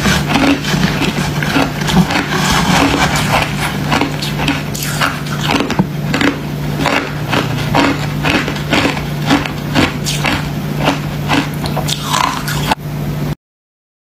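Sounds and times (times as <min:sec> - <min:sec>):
ice being chewed: 0:00.0 - 0:12.8
steady low hum: 0:00.0 - 0:13.4.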